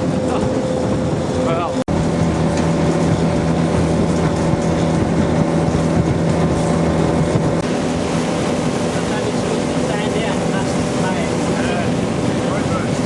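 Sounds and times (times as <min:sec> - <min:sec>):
boat motor running: 0:00.0 - 0:13.0
rush of water and wind: 0:00.0 - 0:13.0.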